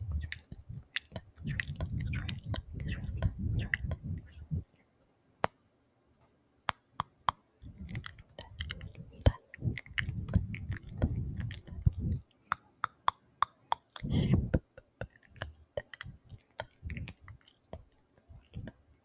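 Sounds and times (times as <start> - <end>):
wet mouth smacking: 0.0 - 4.8, 6.7 - 18.8
wet tongue clicks: 0.0 - 4.8, 6.7 - 18.8.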